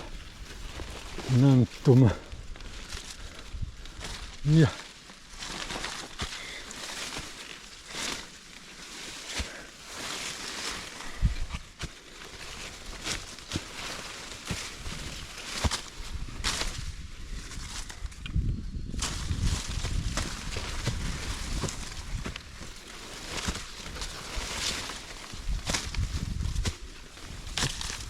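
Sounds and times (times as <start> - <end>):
footsteps on dirt trail: 0.0 - 18.4, 19.0 - 28.0
leaves rustling: 0.0 - 28.0.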